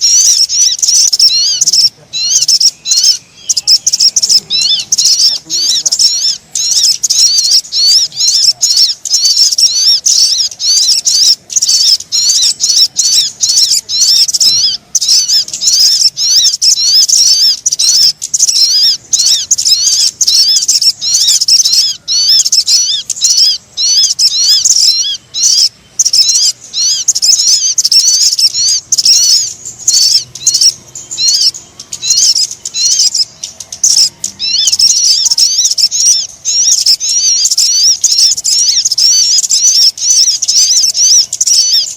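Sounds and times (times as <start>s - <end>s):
high-pitched bird chirping: 0.0s - 41.9s.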